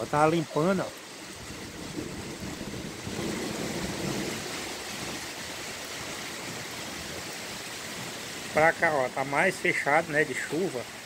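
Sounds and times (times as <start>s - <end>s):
light rain on roof tiles: 0.0s - 11.0s.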